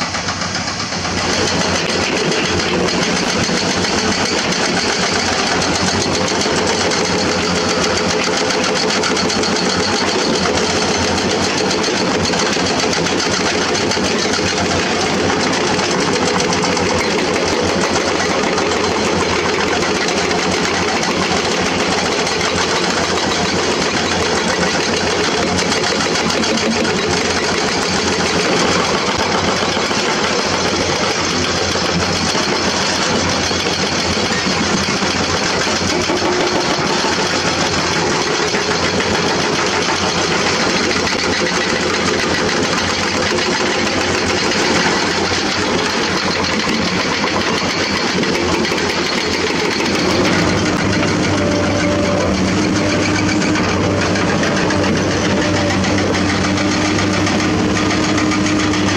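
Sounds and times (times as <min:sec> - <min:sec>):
diesel excavator engines running: 0:00.0 - 0:58.9
hydraulic rock breaker clatter: 0:00.0 - 0:58.9.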